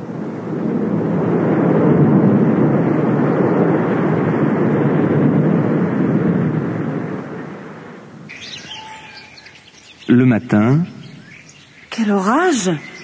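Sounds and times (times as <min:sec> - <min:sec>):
low roll of thunder: 0:00.0 - 0:11.8.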